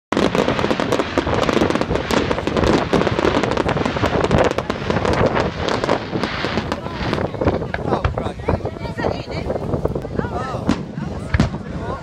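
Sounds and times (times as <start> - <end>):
fireworks crackling bangs: 0.1 - 12.0.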